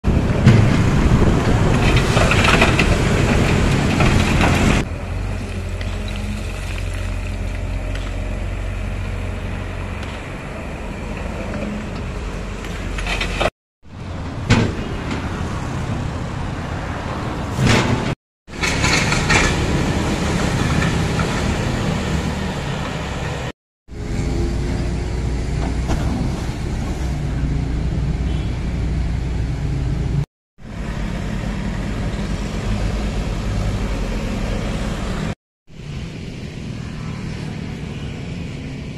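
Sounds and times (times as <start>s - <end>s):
excavator diesel engines running: 0.1s - 38.9s.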